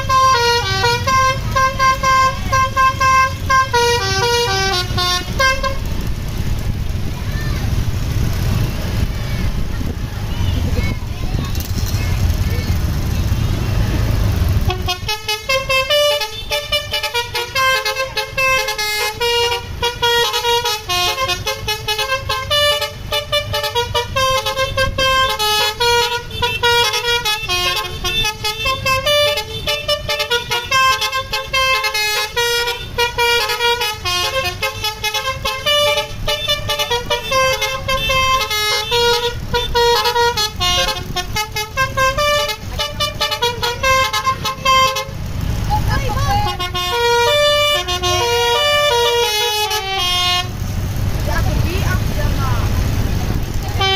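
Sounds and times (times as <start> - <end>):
bus musical horn melody: 0.0 - 6.2, 13.3 - 50.7, 53.6 - 53.9
bus engine rumbling: 0.0 - 53.9.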